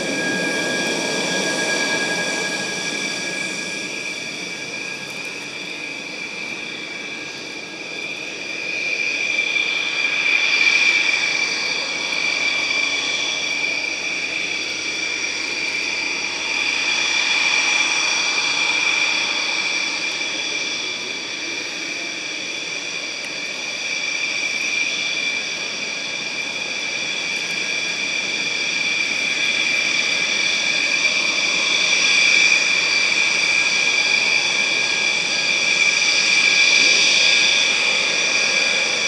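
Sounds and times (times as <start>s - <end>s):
aircraft engine whine: 0.0s - 39.0s.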